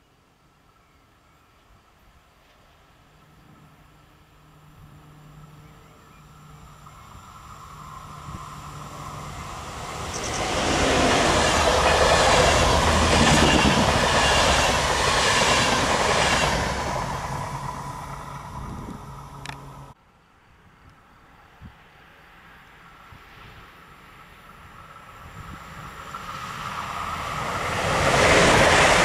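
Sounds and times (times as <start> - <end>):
train passing: 1.8 - 20.0, 21.2 - 29.0.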